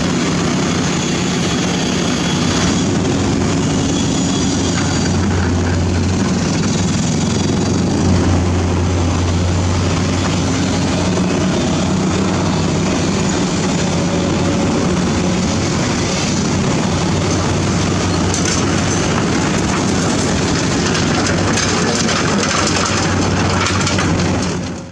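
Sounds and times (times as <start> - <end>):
dump truck diesel engine: 0.0 - 24.9
excavator diesel engine under load: 0.0 - 24.9.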